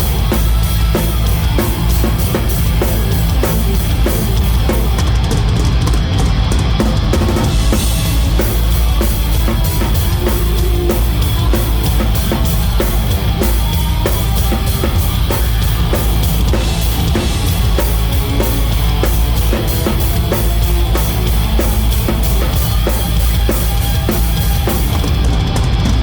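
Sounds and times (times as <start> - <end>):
drum kit fast beat: 0.0 - 26.0
live hard rock band: 0.0 - 26.0.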